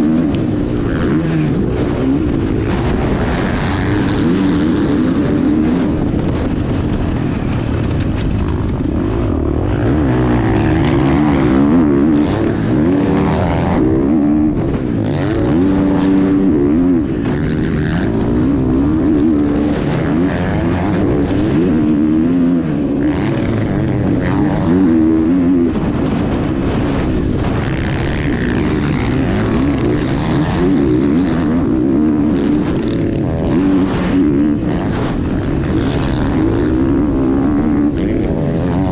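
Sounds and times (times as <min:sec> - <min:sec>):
dirt bike engines racing: 0:00.0 - 0:38.9.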